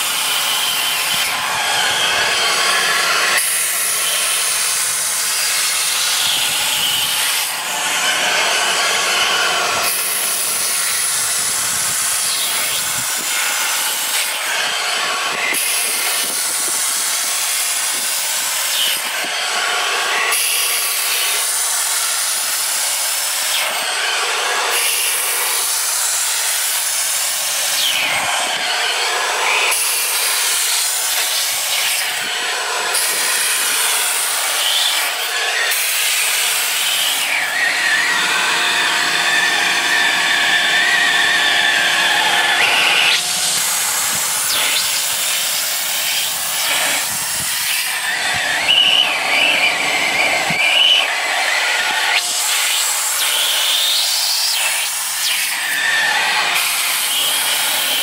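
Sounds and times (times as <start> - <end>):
steamer hissing: 0.0 - 58.0.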